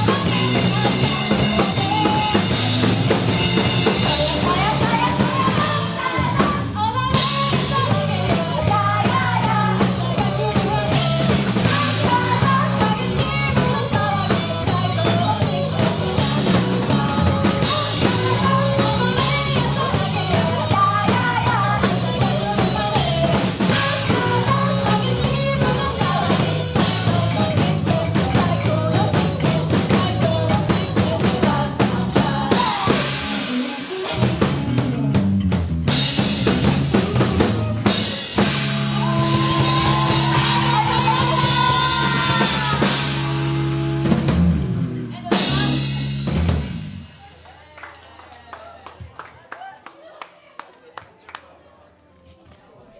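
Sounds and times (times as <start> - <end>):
drum-kit beat: 0.0 - 47.8
loud band music: 0.0 - 47.8.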